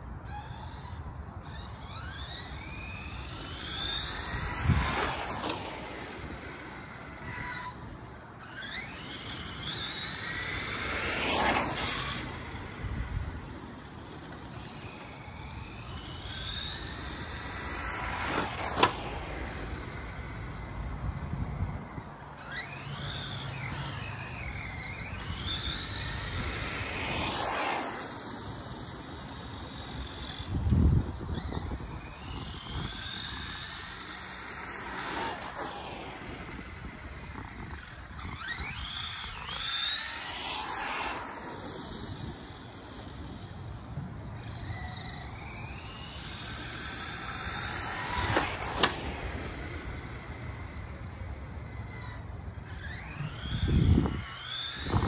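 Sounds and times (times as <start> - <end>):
electric motor whining: 0.1 - 55.0
tyres sliding on asphalt: 0.5 - 55.0.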